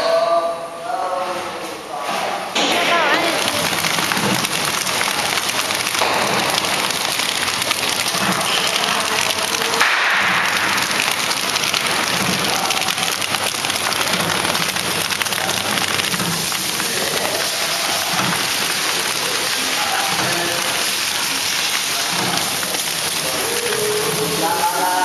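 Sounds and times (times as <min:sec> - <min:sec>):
bread packing machine running: 0:02.4 - 0:25.0.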